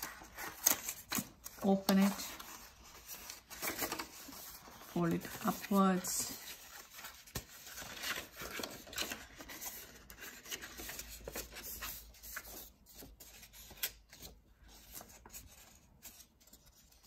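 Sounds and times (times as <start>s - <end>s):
paper rustling: 0.0s - 17.0s.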